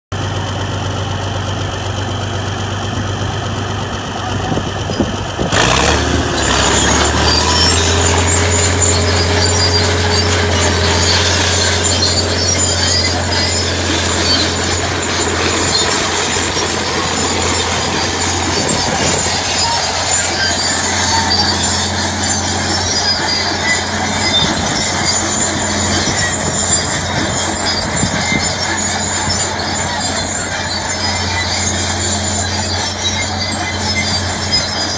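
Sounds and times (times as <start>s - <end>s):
tractor diesel engine under load: 0.1s - 34.9s
harsh high-pitched mechanical noise: 2.0s - 34.9s.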